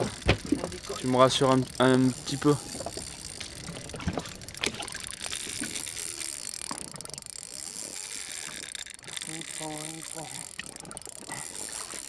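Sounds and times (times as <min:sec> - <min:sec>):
fishing reel ticking and hissing: 0:00.0 - 0:12.0.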